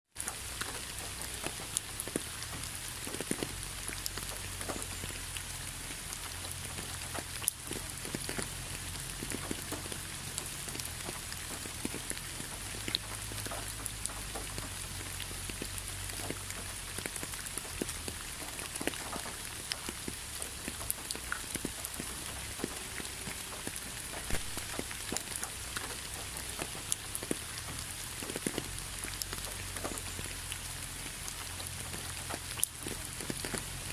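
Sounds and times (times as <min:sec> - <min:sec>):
rain hissing: 0:00.1 - 0:33.9
raindrops ticking: 0:00.1 - 0:33.9.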